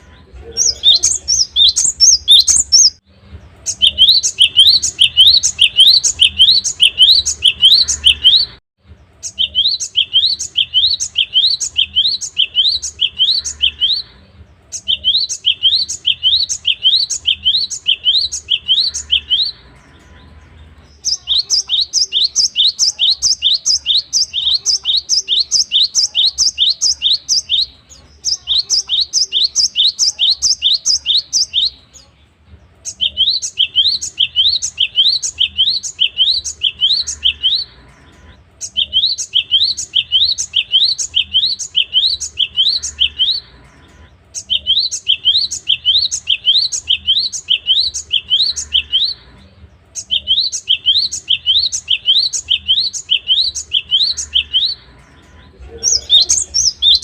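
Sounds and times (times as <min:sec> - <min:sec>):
bird singing sharp high notes: 0:00.0 - 0:03.0, 0:03.6 - 0:32.1, 0:32.9 - 0:57.0.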